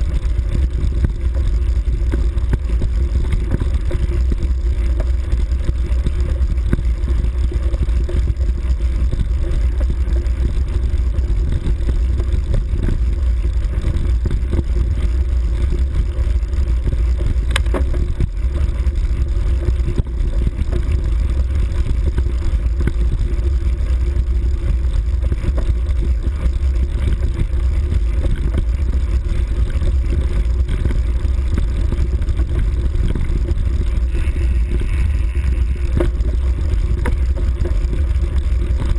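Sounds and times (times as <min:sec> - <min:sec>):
motorbike engine running: 0:00.0 - 0:38.9
wind rumble on microphone: 0:00.0 - 0:38.9.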